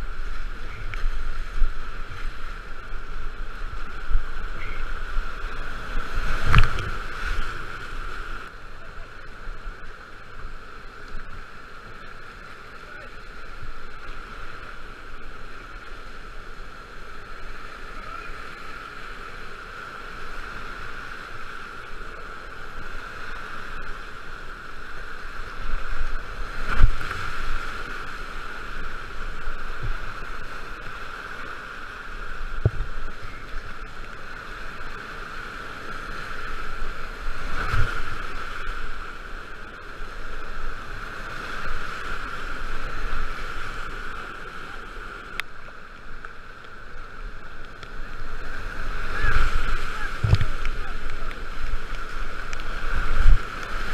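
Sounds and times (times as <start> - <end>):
whitewater rapids rushing: 0.0 - 53.9.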